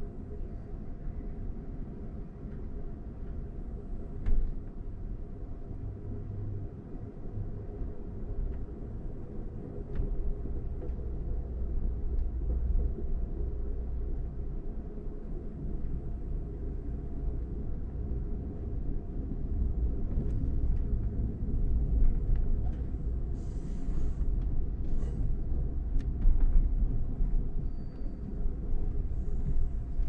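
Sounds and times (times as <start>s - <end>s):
train wheels rumbling on rail: 0.1s - 30.0s.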